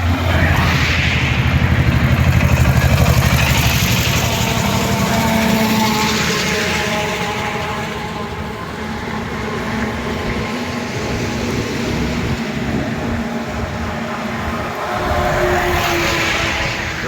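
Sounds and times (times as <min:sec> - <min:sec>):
large vehicle engine rumble: 0:00.0 - 0:17.0
tyre and road noise: 0:00.0 - 0:17.0.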